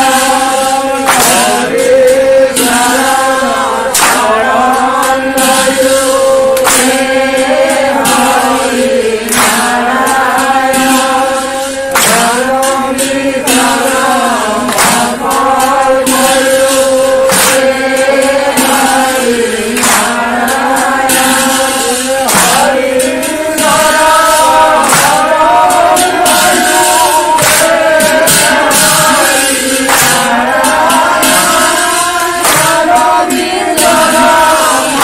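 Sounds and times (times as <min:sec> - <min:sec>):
men chanting devotional song: 0:00.0 - 0:35.0
sharp hand claps: 0:00.0 - 0:35.0.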